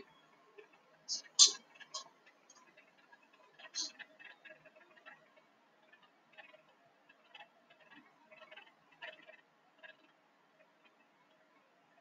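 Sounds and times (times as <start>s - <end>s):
faint irregular ticks: 0.0s - 12.0s.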